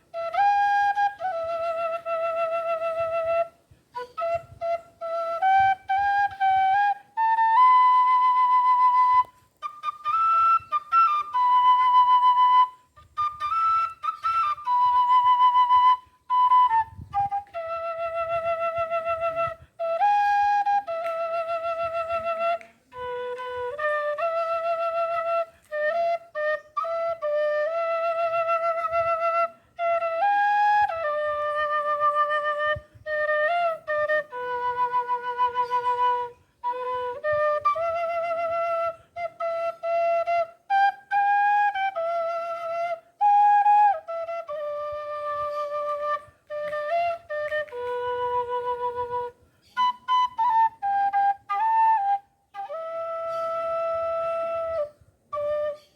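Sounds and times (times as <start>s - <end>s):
flute playing slow melody: 0.0s - 55.9s.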